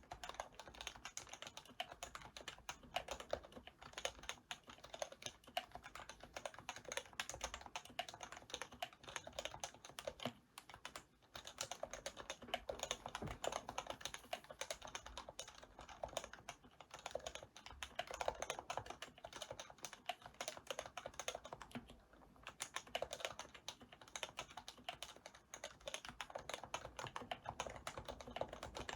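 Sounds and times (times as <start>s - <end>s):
fast keyboard typing: 0.0s - 28.9s.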